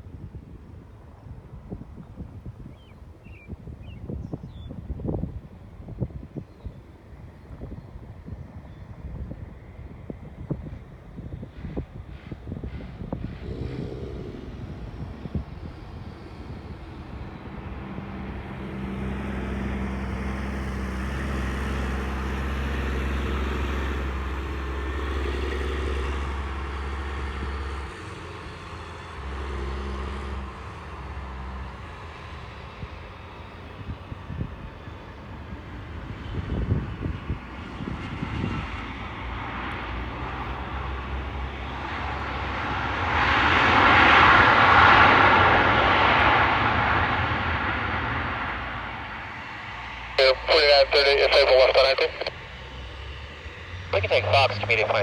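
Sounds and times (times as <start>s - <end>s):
low aircraft engine hum: 0.0s - 55.0s
aircraft passing with rushing roar: 4.8s - 55.0s.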